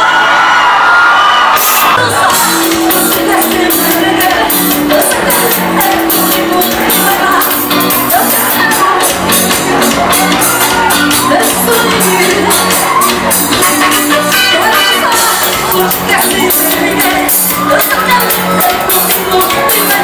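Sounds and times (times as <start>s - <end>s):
loud live band music: 0.0s - 20.0s
steady drumbeat: 1.6s - 20.0s.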